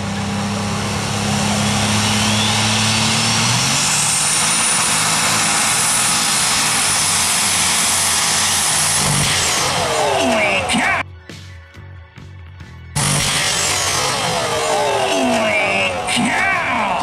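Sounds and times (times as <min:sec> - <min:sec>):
high engine whine: 0:00.0 - 0:11.3, 0:12.5 - 0:17.0
tractor engine roaring: 0:00.0 - 0:17.0.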